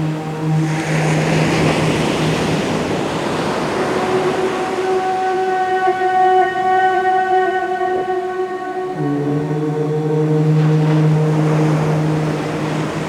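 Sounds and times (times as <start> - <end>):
higher sustained note: 0.0 - 13.0
low chanted om: 0.0 - 13.0
ocean surf: 0.0 - 13.0.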